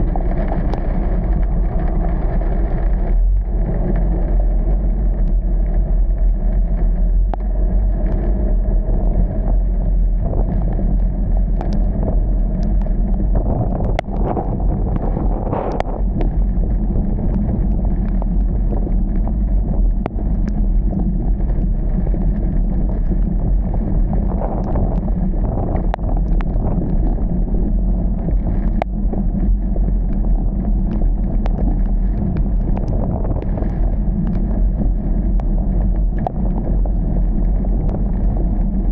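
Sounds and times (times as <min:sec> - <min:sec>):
car rumble: 0:00.0 - 0:38.9.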